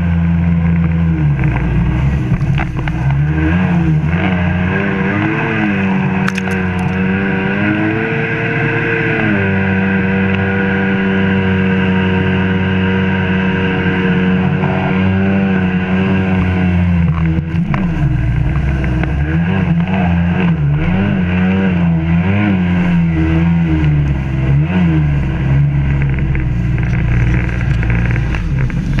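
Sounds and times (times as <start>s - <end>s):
personal watercraft engine running: 0.0s - 29.0s
water rushing along hull: 0.0s - 29.0s.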